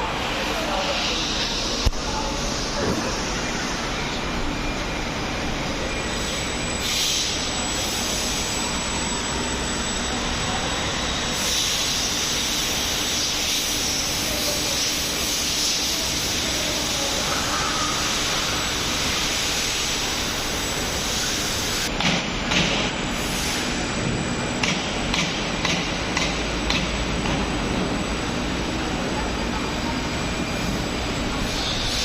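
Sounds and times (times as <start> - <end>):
hydraulic forging press humming: 0.0 - 32.0.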